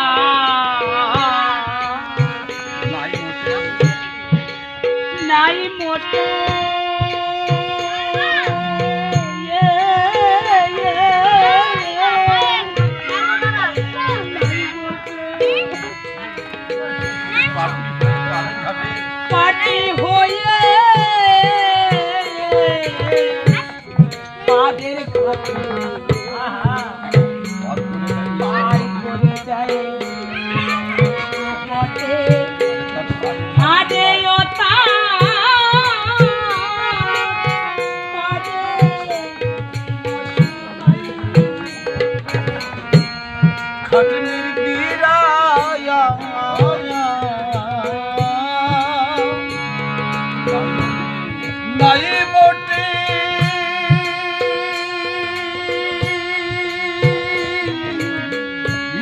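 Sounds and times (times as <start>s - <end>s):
steady drum rhythm: 0.0s - 59.0s
wavering vibrato melody: 0.0s - 59.0s.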